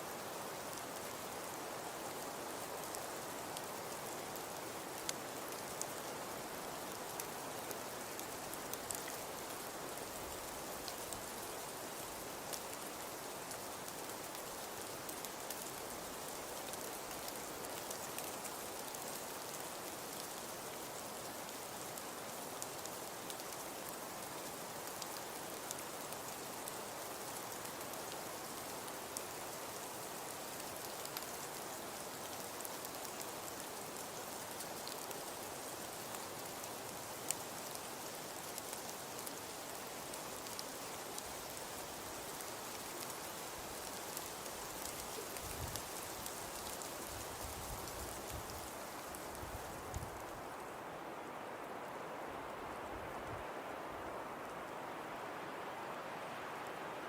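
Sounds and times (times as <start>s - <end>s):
fireplace fire crackling: 2.1s - 50.9s.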